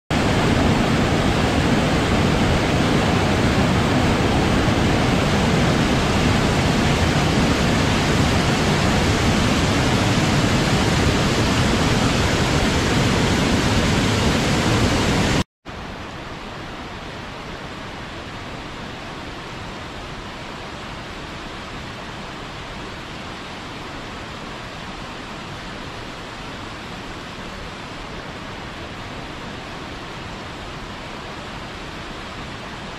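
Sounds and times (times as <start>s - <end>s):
waterfall rushing over boulders: 0.1s - 32.9s.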